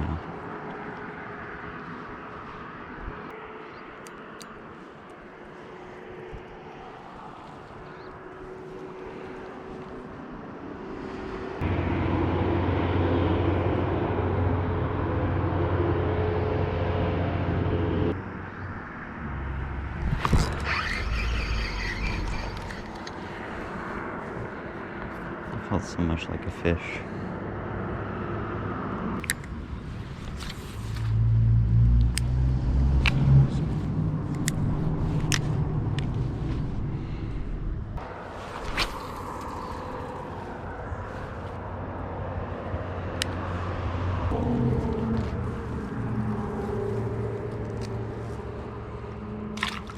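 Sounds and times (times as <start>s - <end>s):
road traffic rumble: 0.0s - 49.9s
motor vehicle passing: 5.5s - 49.9s.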